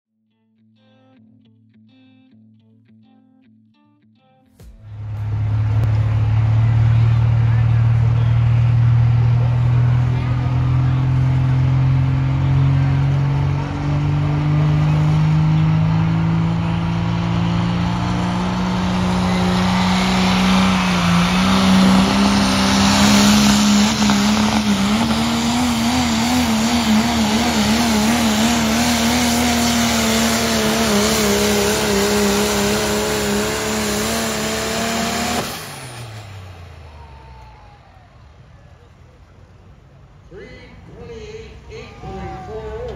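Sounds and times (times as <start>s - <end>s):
diesel truck engine at full throttle: 4.7s - 42.9s.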